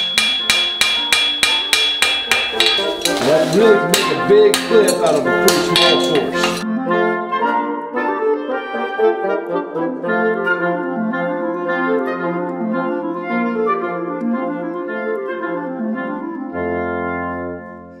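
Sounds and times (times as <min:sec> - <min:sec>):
instrumental melody: 0:00.0 - 0:18.0.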